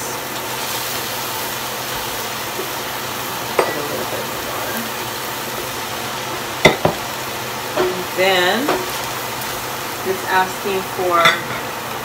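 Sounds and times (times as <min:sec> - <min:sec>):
loud stove fan: 0:00.0 - 0:12.0
vegetables sizzling in a pan: 0:00.0 - 0:12.0.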